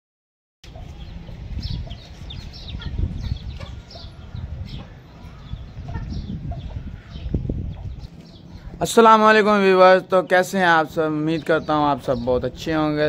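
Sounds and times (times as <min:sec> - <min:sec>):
birds chirping: 0:00.6 - 0:13.0.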